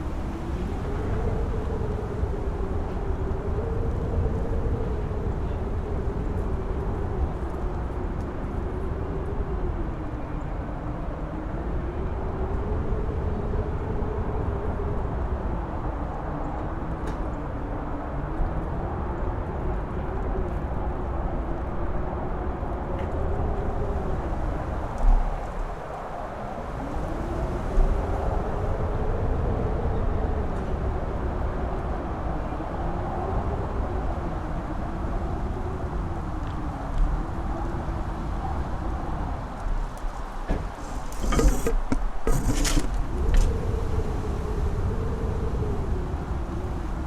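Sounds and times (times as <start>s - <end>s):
strong wind howling: 0.0s - 47.0s.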